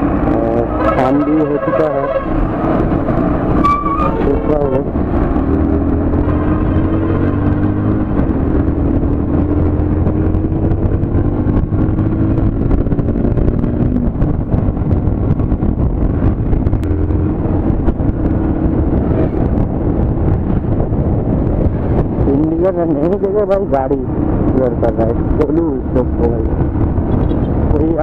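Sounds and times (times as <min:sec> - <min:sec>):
motorcycle engine riding: 0:00.0 - 0:28.0.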